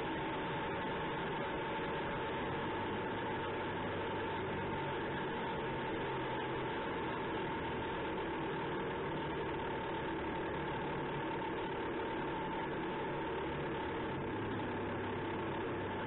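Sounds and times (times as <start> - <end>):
diesel engine running: 0.0 - 16.0
steady high whine: 0.0 - 16.0.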